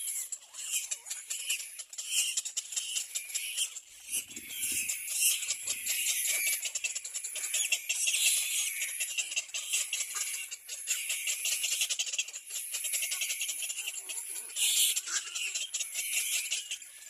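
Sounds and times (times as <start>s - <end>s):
chicks squeaky begging calls: 0.0s - 17.0s.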